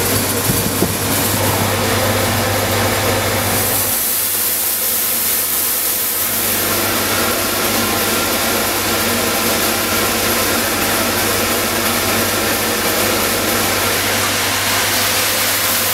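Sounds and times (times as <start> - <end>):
machine drone and hiss: 0.0 - 15.9.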